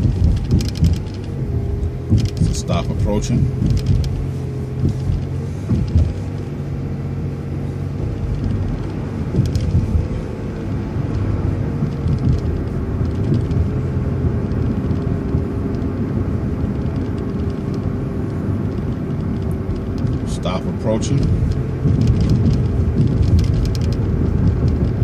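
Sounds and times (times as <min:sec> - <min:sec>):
bus engine and road noise: 0:00.0 - 0:25.0.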